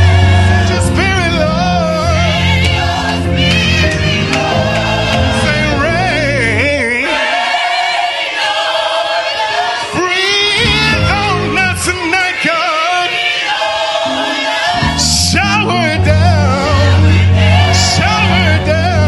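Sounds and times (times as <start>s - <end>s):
band accompaniment: 0.0s - 7.4s, 10.2s - 19.0s
choir singing: 0.0s - 19.0s.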